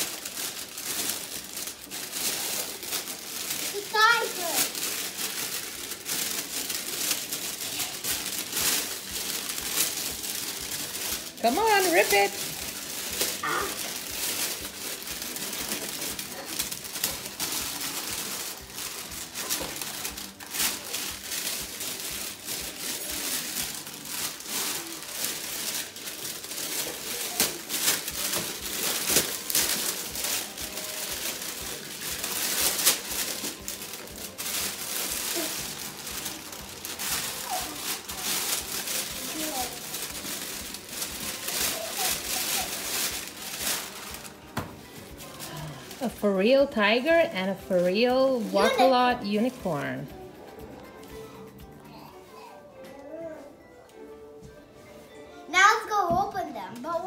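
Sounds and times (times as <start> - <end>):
wrapping paper tearing and crumpling: 0.0 - 52.6.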